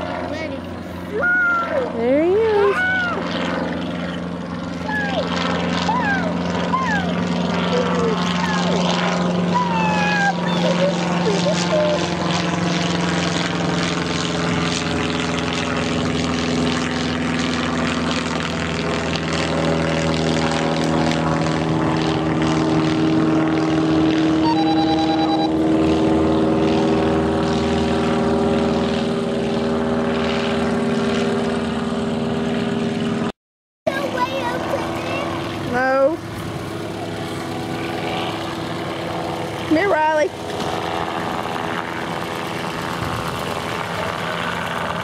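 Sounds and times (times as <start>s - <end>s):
light aircraft engine and propeller: 0.0s - 45.0s.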